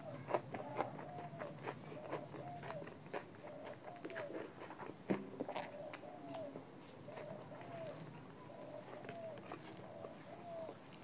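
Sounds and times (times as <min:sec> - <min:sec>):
wet chewing and lip smacking: 0:00.3 - 0:11.0.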